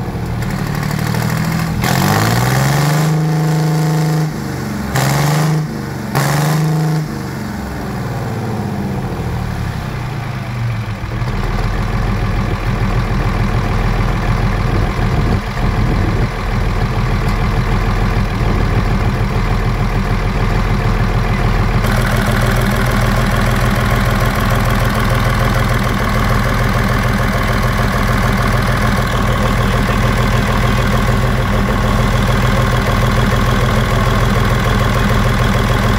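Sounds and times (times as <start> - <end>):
diesel tractor engine revving and idling: 0.0 - 35.9.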